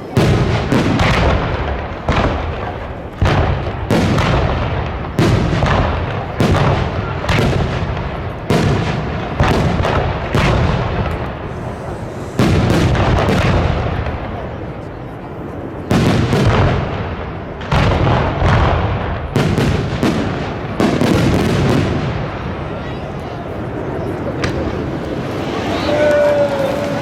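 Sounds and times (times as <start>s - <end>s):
fireworks bursting with rumble: 0.0s - 27.0s.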